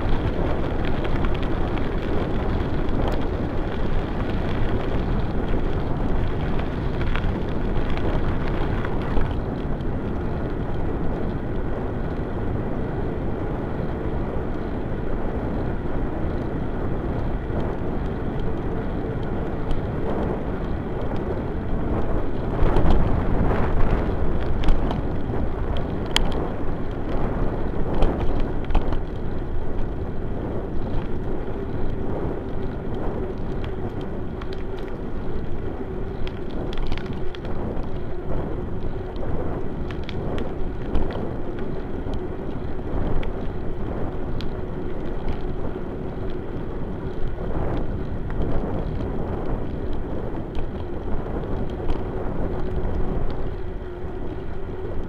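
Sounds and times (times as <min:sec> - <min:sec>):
bicycle tyre rolling on asphalt: 0:00.0 - 0:55.0
wind noise: 0:00.0 - 0:55.0.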